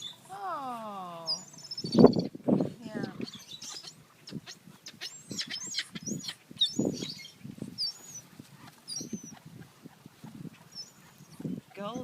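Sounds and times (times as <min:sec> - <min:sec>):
gulls squealing calls: 0:01.3 - 0:12.0.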